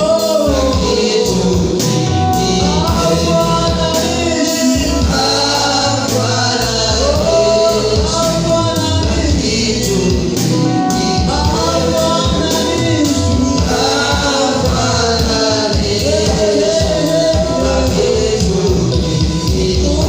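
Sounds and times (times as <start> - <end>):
gospel singing over a band: 0.0 - 20.0.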